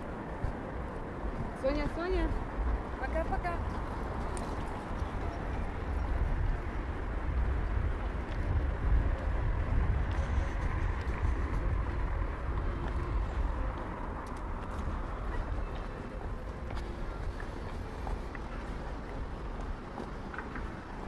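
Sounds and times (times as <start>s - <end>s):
low street rumble: 0.0s - 21.0s.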